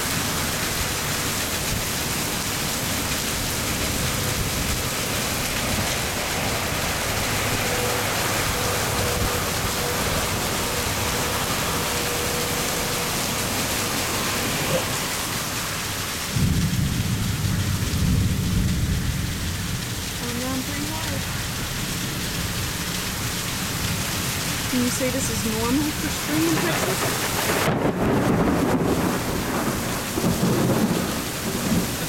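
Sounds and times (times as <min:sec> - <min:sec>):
heavy rain pouring: 0:00.0 - 0:32.0
thunder rumble: 0:02.8 - 0:22.7, 0:23.7 - 0:32.0.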